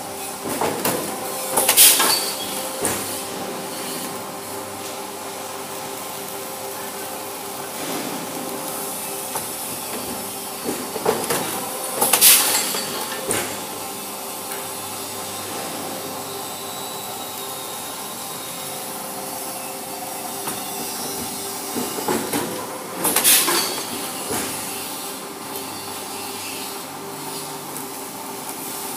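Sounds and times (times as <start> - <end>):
chain-making machines running: 0.0 - 28.9.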